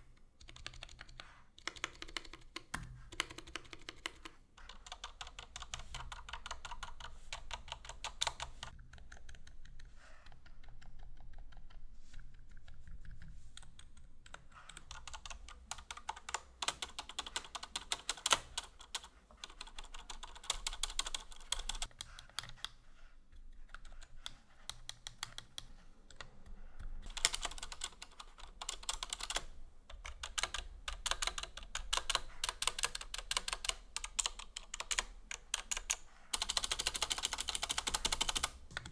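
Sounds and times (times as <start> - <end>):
keyboard typing: 0.4 - 22.8, 23.4 - 38.9.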